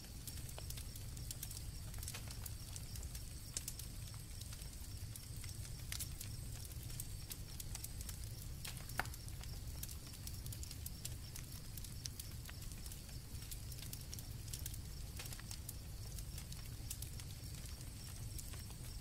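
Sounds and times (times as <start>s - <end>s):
campfire crackling and popping: 0.0s - 19.0s
crickets chirping: 0.0s - 19.0s.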